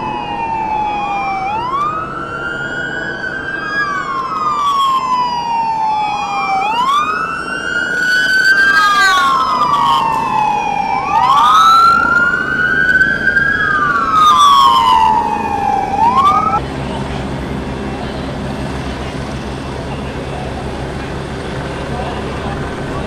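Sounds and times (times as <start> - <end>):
police sirens wailing: 0.0 - 23.0.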